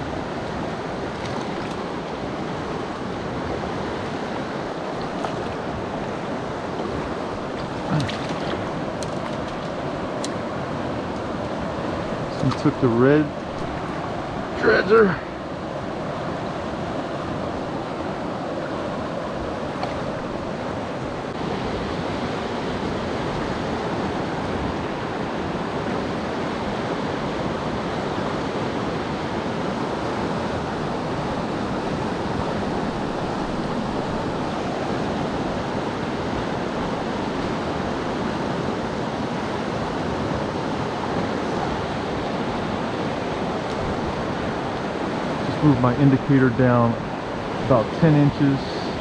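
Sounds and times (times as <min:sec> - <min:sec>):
river water rushing: 0:00.0 - 0:49.0.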